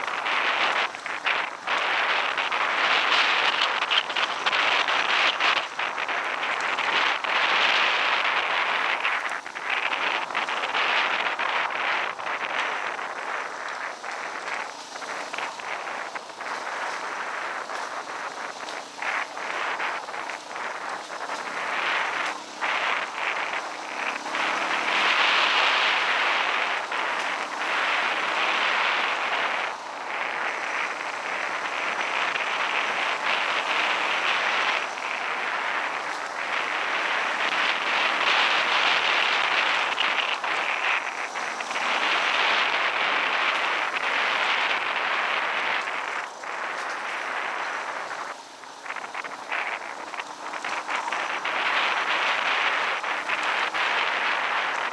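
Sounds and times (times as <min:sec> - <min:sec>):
dirt bike engine: 0:00.0 - 0:48.1
wind noise on microphone: 0:00.0 - 0:54.9.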